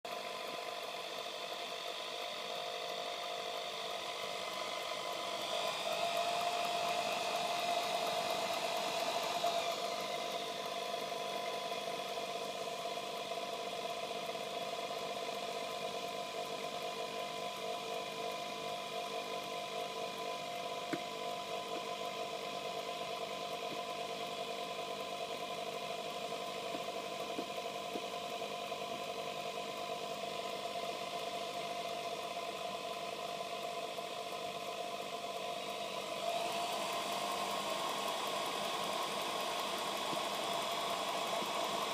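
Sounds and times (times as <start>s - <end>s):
small motor whining: 0.1s - 41.9s.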